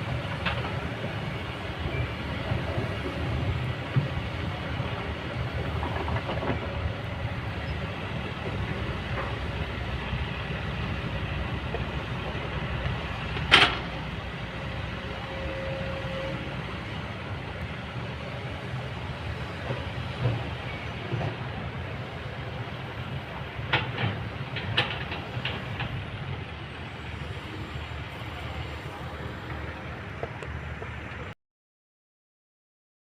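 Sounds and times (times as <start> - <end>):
excavator diesel engine rumble: 0.0 - 31.4.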